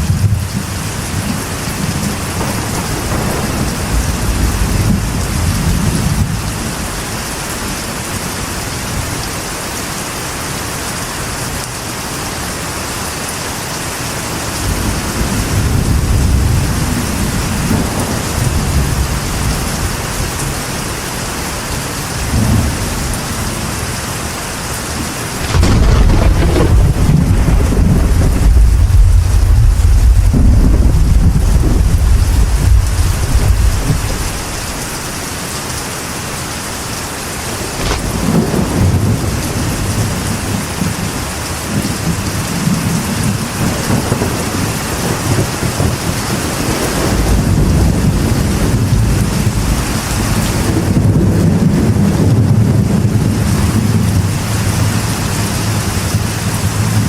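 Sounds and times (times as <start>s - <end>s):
thunder rumbling: 0.0s - 8.2s, 14.2s - 35.2s, 36.8s - 57.0s
rain on a metal roof: 0.0s - 57.0s.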